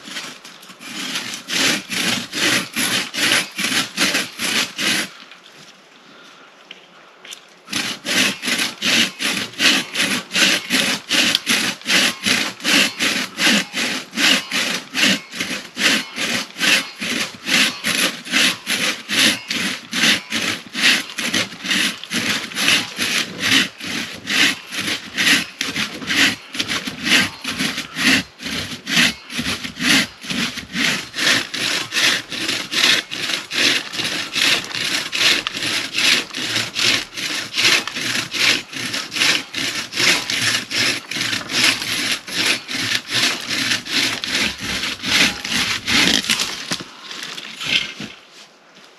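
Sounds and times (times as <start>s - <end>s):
hand saw cutting log: 0.0s - 5.2s, 7.7s - 48.2s.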